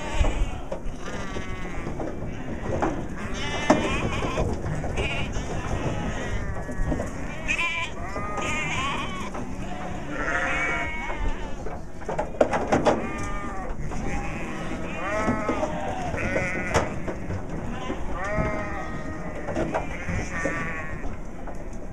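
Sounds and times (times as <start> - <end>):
sheep and lambs bleating: 0.0 - 11.6, 12.3 - 21.2.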